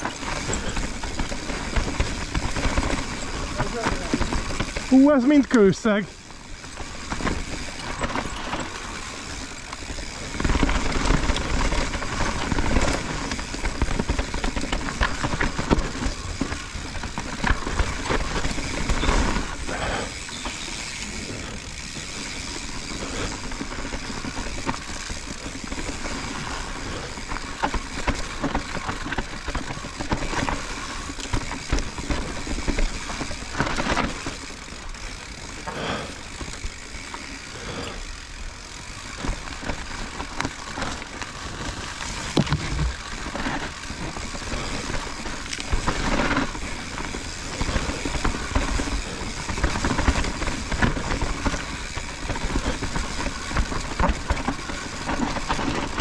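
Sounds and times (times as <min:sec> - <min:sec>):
bike chain and frame rattling: 0:00.0 - 0:56.0
bike tyres rolling over dirt: 0:00.0 - 0:56.0.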